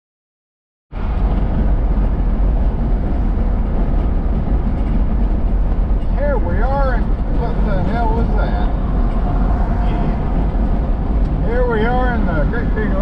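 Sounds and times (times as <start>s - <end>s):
road and engine noise in car cabin: 1.0s - 13.0s.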